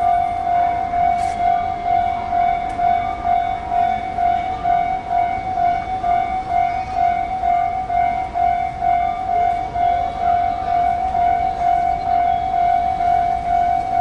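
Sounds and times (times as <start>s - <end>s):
level crossing warning bell: 0.0s - 14.0s.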